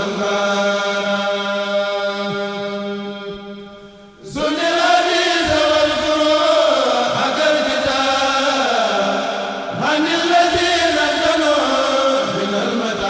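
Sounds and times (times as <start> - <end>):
unaccompanied devotional chanting: 0.0 - 13.0.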